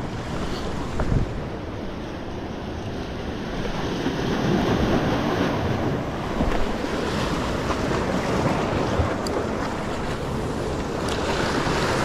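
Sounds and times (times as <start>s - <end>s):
waves breaking on rocks: 0.0s - 12.0s
wind rumbling on microphone: 0.0s - 12.0s.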